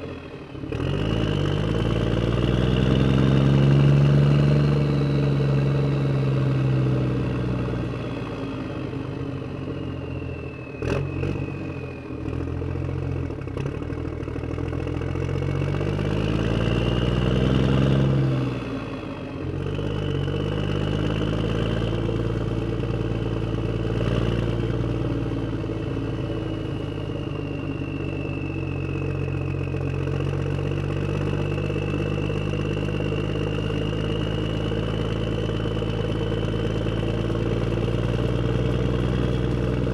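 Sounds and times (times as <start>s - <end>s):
vehicle engine driving away: 0.0s - 39.9s.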